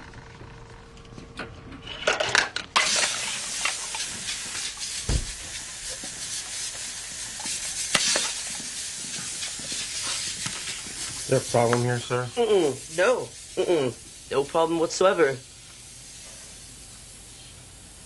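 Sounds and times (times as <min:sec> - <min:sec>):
steady hiss: 0:02.8 - 0:18.0.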